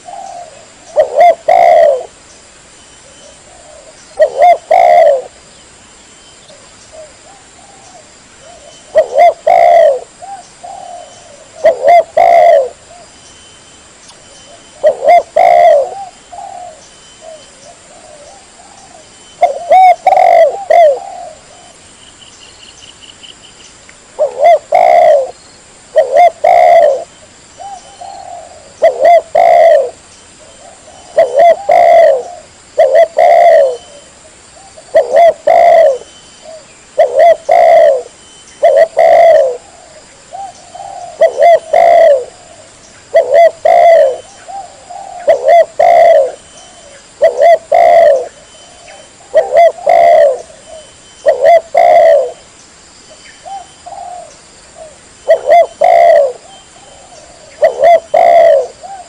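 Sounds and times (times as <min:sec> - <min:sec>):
dove cooing: 0:00.0 - 0:02.2, 0:03.0 - 0:05.4, 0:06.5 - 0:13.1, 0:14.5 - 0:21.8, 0:24.2 - 0:52.4, 0:53.4 - 0:59.0.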